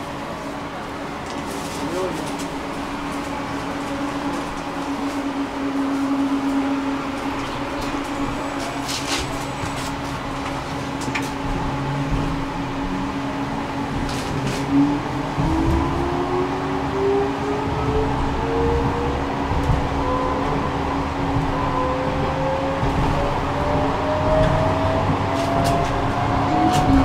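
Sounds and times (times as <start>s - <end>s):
tram electrical hum: 0.0s - 27.0s.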